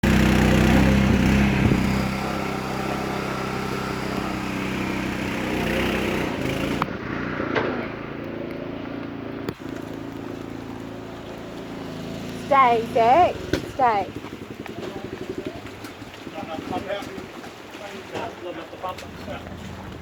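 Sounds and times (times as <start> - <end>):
engine running: 0.0 - 20.0.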